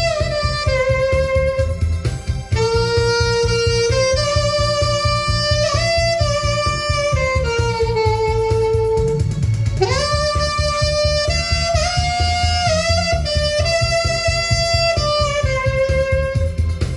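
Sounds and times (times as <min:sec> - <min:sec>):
backing track with low beat: 0:00.0 - 0:16.9
saxophone slow melody: 0:00.0 - 0:16.9.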